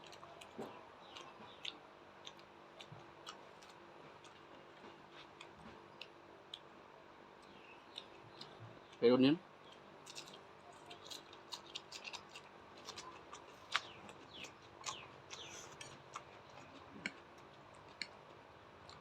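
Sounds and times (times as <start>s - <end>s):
crunchy chewing: 0.0s - 9.0s, 9.6s - 19.0s.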